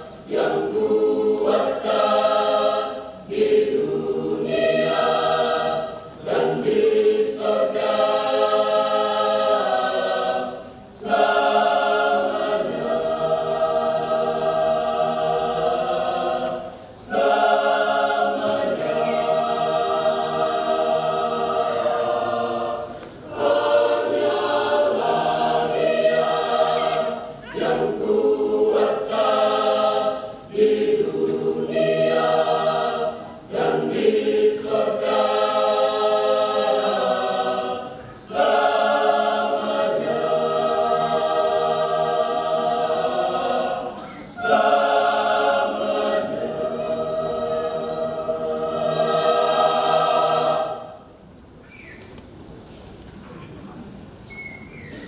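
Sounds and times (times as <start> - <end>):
mixed choir singing a cappella: 0.0 - 51.5.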